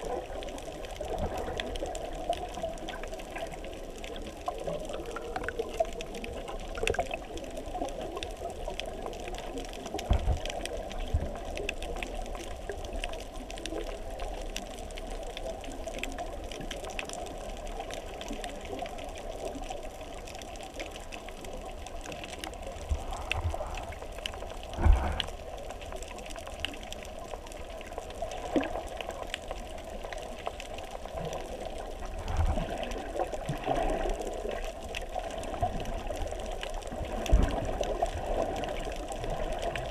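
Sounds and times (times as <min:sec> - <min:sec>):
crackling clicks: 0:00.0 - 0:39.9
muffled rush of water underwater: 0:00.0 - 0:39.9.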